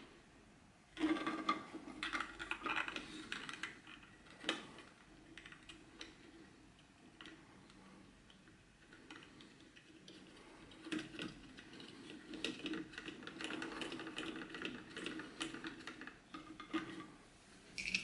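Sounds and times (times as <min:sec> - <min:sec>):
plastic parts clicking and scraping: 0:01.0 - 0:17.2.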